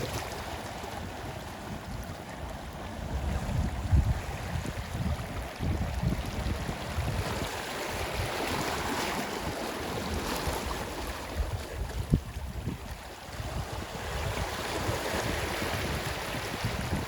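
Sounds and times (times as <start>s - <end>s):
ocean waves washing on shore: 0.0s - 17.0s
wind rumble on microphone: 0.0s - 17.0s.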